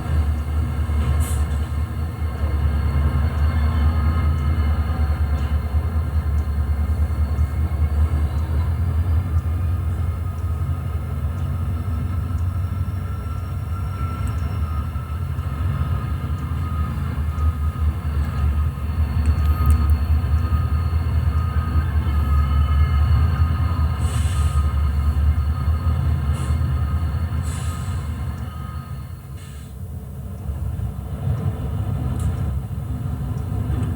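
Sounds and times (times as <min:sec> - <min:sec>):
model train rumbling: 0:00.0 - 0:33.9.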